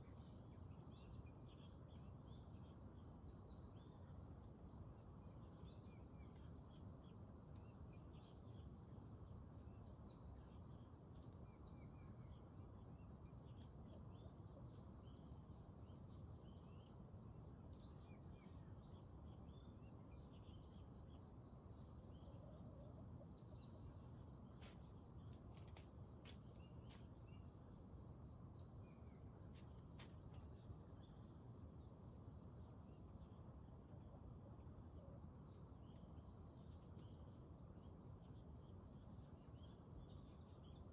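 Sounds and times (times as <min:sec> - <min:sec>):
insects chirring: 0:00.0 - 0:33.8.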